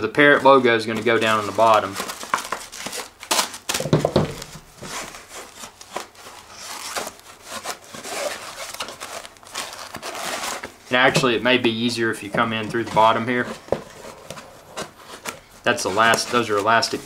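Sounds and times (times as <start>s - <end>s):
fabric hood rustling and crinkling: 0.0s - 17.0s.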